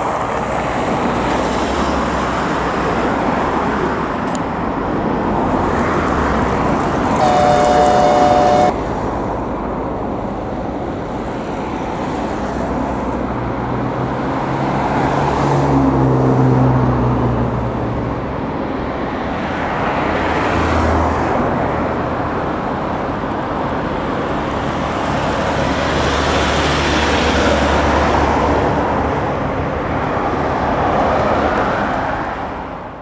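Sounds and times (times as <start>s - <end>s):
road traffic rumble: 0.0s - 33.0s
vehicles passing: 0.0s - 33.0s.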